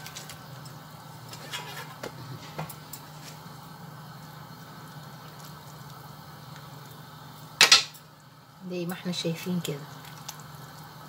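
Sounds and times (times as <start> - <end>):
gas stove low hum: 0.0 - 11.0.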